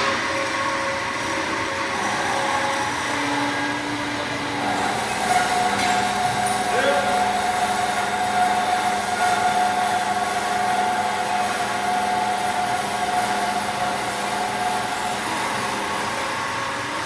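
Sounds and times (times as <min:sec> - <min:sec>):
bandsaw cutting metal: 0:01.4 - 0:16.4.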